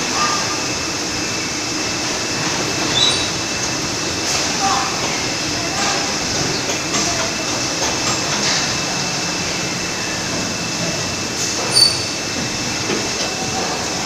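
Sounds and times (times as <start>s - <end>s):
printing machines running: 0.0s - 14.0s.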